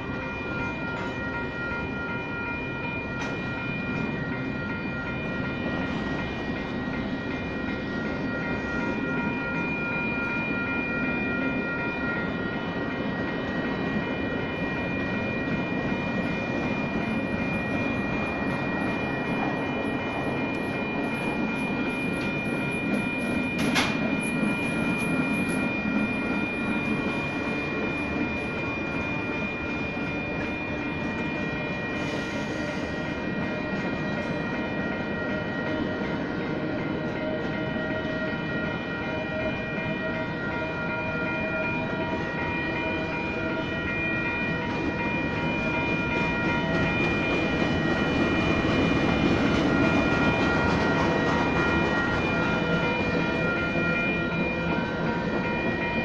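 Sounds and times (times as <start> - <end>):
crossing bells ringing: 0.0 - 56.0
freight train rolling past: 0.0 - 56.0.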